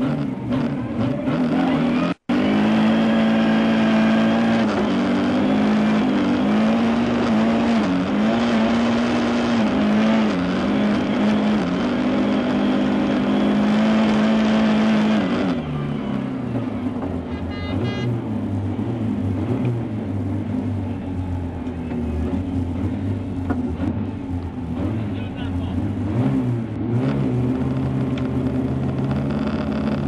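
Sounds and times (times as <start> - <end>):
car engine at high revs: 0.0 - 30.0.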